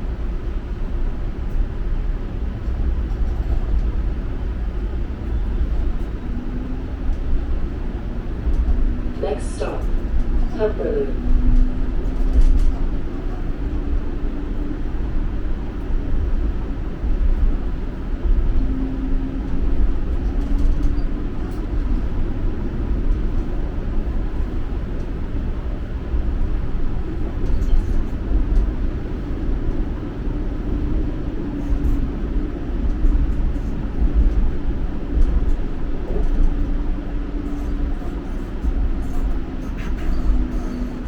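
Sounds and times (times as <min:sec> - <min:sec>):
streetcar low rumble: 0:00.0 - 0:41.0.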